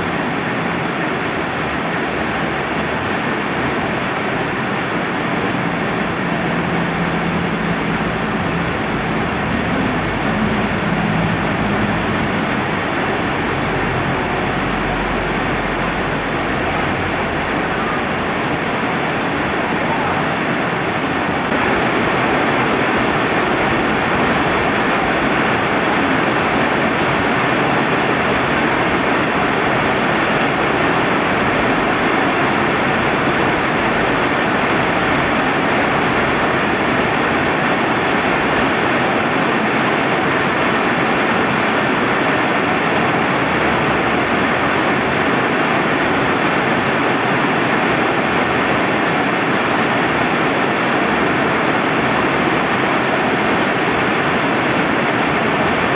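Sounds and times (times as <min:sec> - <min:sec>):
rain falling: 0:00.0 - 0:55.9
river running water: 0:00.0 - 0:55.9.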